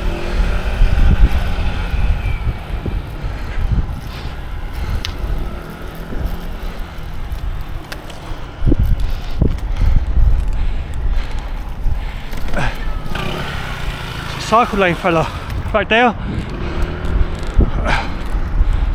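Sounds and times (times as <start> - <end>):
car engine running: 0.0 - 10.1, 10.8 - 18.8.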